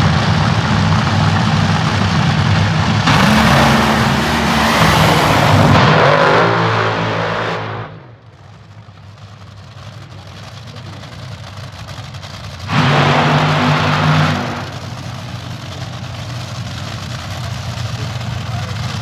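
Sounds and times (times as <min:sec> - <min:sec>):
engine throttle burst: 0:00.0 - 0:08.3, 0:10.0 - 0:19.0
dragster engines running: 0:00.0 - 0:19.0.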